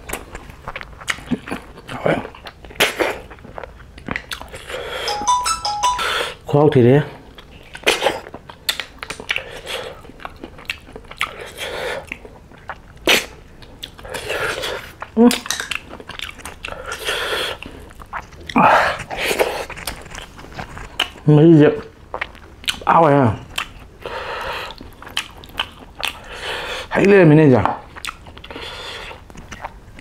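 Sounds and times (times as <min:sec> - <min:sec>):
man chewing with wet mouth sounds: 0:00.0 - 0:05.0, 0:07.3 - 0:30.0.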